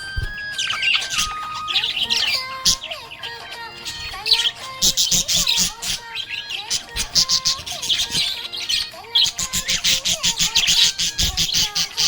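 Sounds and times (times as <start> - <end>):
budgerigar chirping and warbling: 0.0 - 12.0.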